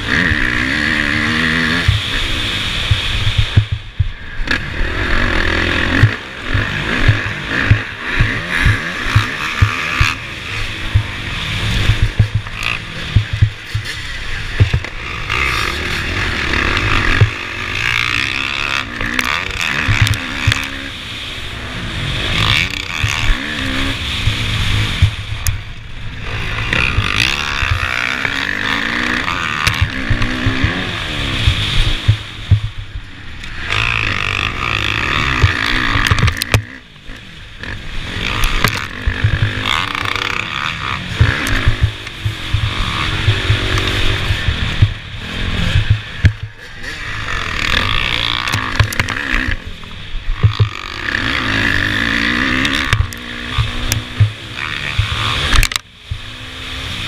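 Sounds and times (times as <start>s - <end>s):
motocross bike engine racing: 0.0s - 57.0s.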